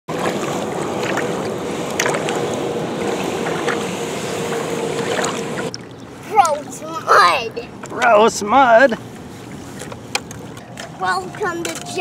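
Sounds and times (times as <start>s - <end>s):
small waves lapping on shore: 0.1s - 12.0s.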